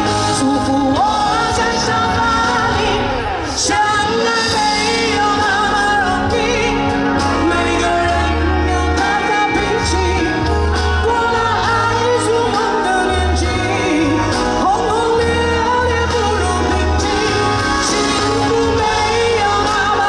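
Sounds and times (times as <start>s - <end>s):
pop band playing: 0.0s - 20.0s
woman singing: 0.0s - 20.0s.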